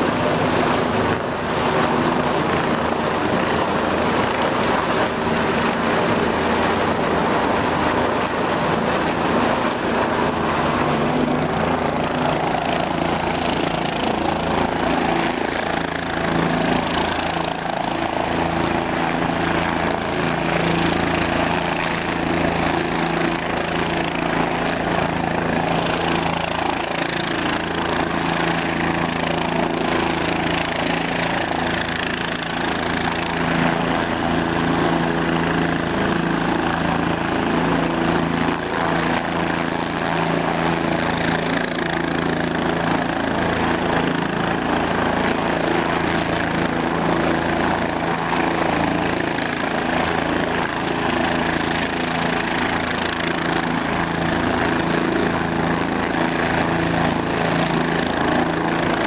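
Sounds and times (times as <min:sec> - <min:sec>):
helicopter rotor beat: 0:00.0 - 0:59.0
helicopter turbine whine: 0:00.0 - 0:59.0.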